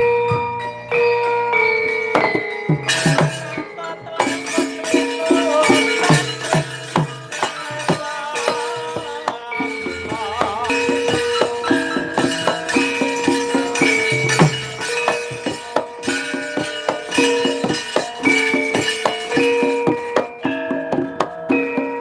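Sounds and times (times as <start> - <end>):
gamelan playing: 0.0 - 22.0.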